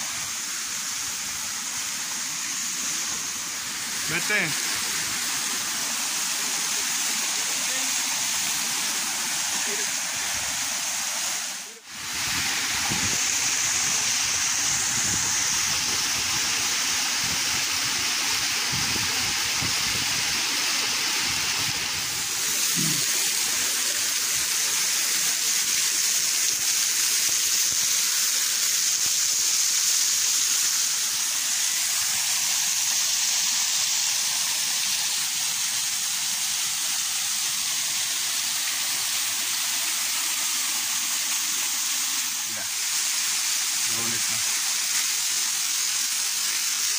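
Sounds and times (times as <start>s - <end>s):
waterfall splashing: 0.0s - 46.9s.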